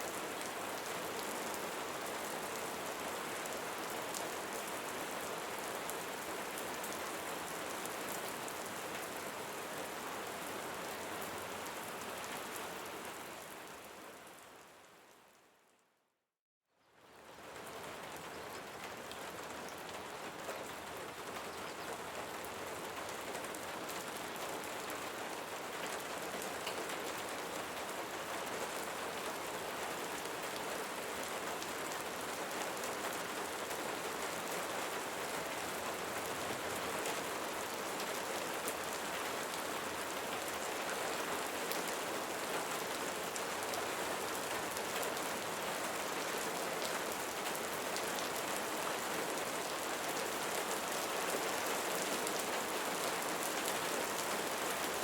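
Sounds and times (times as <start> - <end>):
steady rainfall: 0.0 - 15.4, 17.0 - 55.0.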